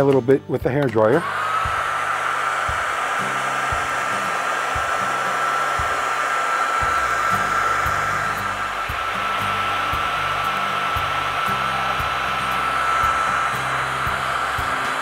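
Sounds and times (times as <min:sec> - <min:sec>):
hair dryer running: 0:00.8 - 0:15.0.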